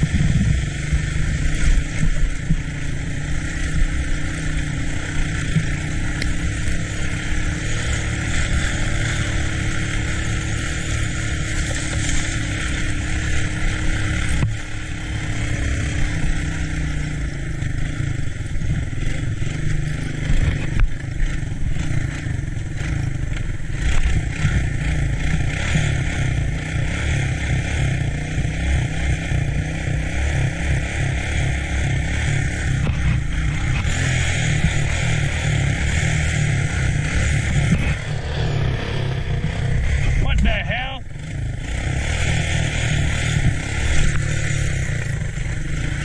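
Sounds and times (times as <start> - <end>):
three-wheeler engine running: 0.0 - 46.0.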